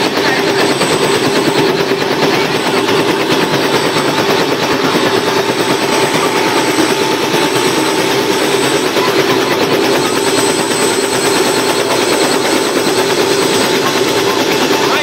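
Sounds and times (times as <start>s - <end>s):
helicopter rotor chop: 0.0s - 15.0s.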